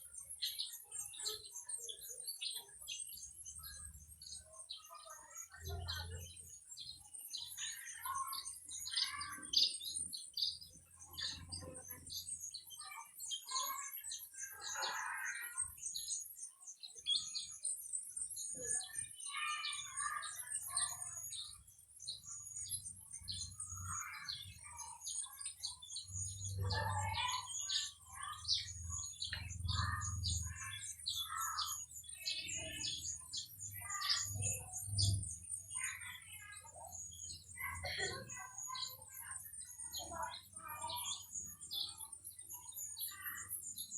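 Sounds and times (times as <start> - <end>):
songbirds chirping and twittering: 0.0 - 43.9.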